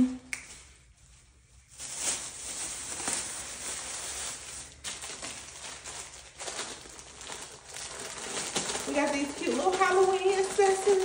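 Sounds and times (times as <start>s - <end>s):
plastic bags crinkling: 0.6s - 11.0s.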